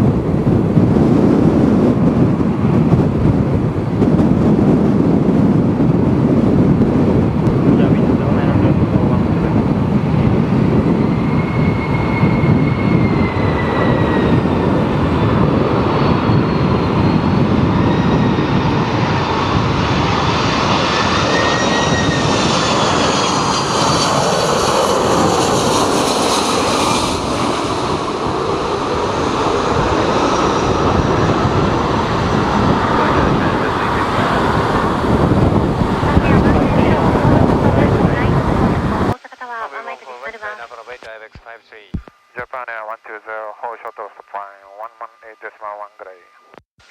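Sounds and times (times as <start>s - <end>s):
wind buffeting microphone: 0.0s - 39.2s
jet engines passing low: 0.0s - 46.9s.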